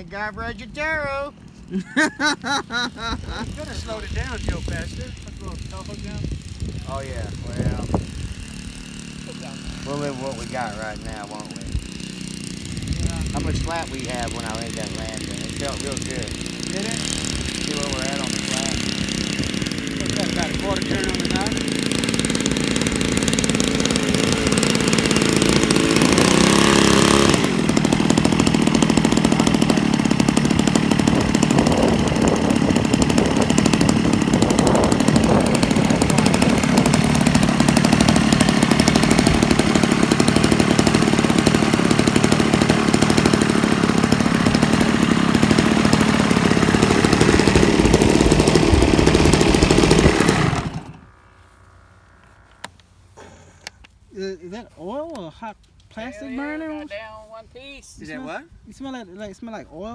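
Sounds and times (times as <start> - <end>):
model airplane engine running: 0.0 - 53.8.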